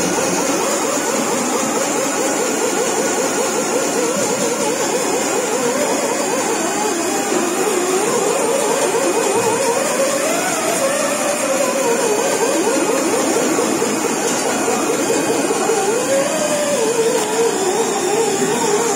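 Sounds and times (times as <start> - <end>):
warbling machine drone: 0.0 - 18.9.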